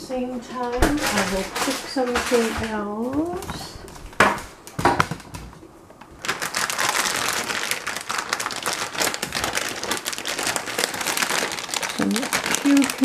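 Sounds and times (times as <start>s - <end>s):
plastic bag crinkling: 0.8s - 13.0s.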